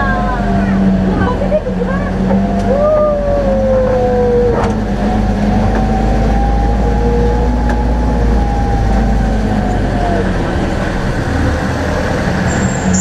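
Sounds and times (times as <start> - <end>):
vehicle engine humming and whining: 0.0 - 13.0.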